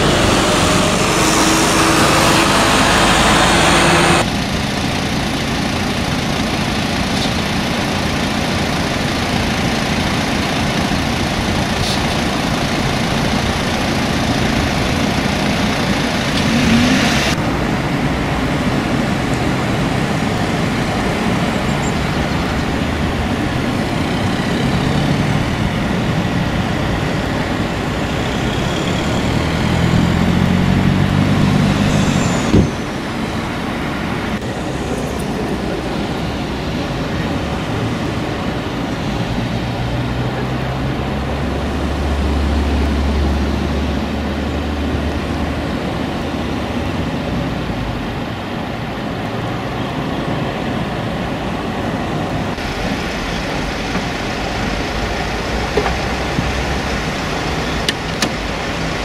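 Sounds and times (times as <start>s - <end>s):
heavy vehicle engine drone: 0.0s - 59.0s.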